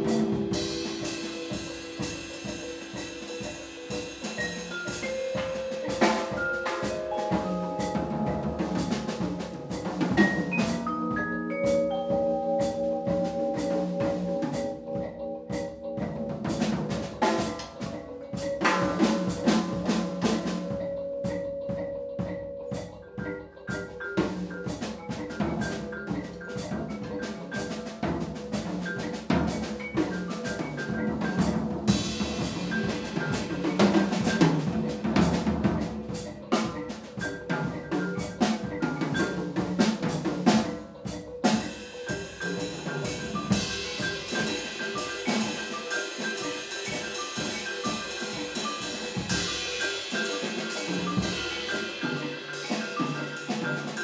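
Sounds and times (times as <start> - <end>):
cymbals: 0.0 - 23.0, 23.8 - 54.0
drum kit playing: 0.0 - 54.0
vibraphone notes: 0.0 - 54.0.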